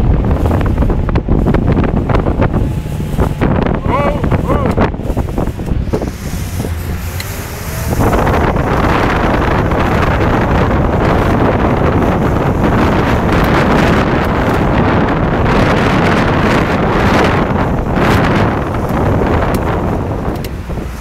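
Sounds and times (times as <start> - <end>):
rush of speedboat and wake: 0.0 - 21.0
wind buffeting microphone: 0.0 - 21.0.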